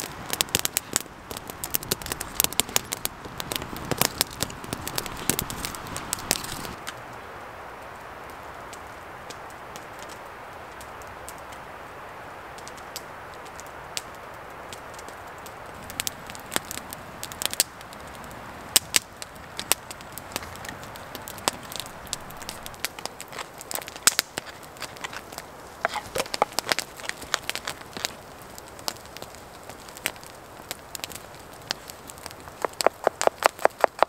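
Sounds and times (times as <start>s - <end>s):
campfire crackling and popping: 0.0s - 34.0s
soft steady hiss: 0.0s - 34.0s.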